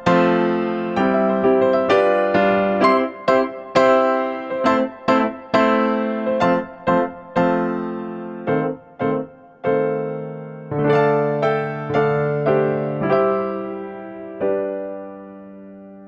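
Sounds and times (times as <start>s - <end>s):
electric piano melody: 0.0s - 16.0s.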